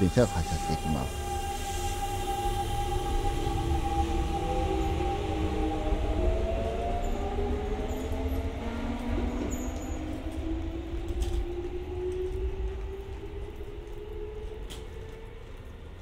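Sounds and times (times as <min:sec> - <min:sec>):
electric train motors whining: 0:00.0 - 0:16.0.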